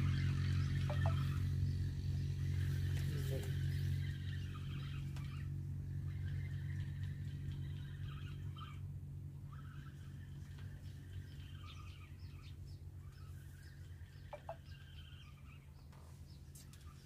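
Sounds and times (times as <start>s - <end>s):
faint bird calls: 0.0s - 17.0s
low steady rumble: 0.0s - 17.0s.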